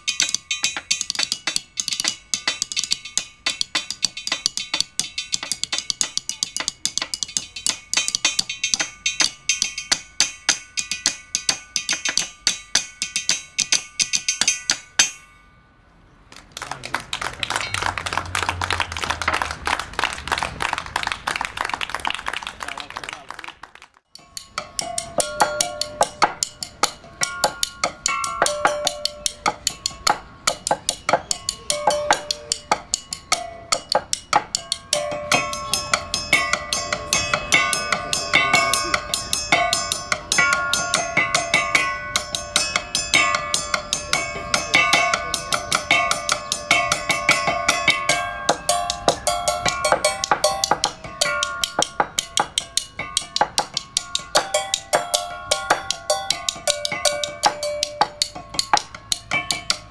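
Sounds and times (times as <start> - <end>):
sticks striking metal poles: 0.0 - 15.4, 24.2 - 59.9.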